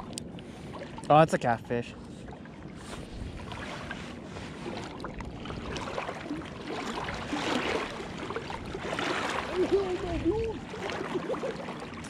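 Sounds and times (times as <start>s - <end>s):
river water sloshing around legs: 0.0s - 12.0s.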